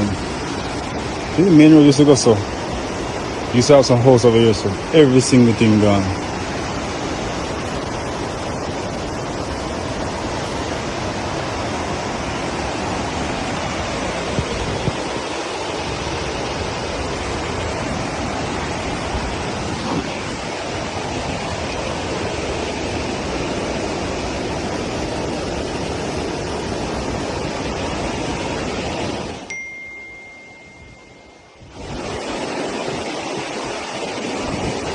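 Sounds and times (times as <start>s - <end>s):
steady rushing noise: 0.0s - 34.9s.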